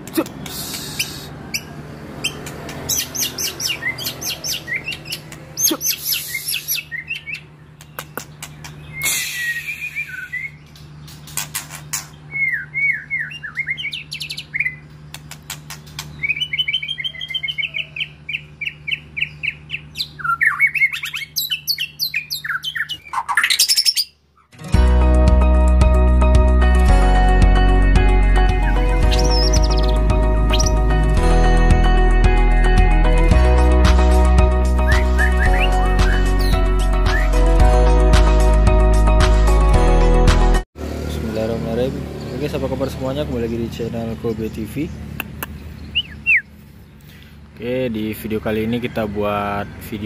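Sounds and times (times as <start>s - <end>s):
songbird singing: 0.0s - 24.6s, 28.2s - 31.6s, 34.0s - 37.6s, 41.1s - 50.0s.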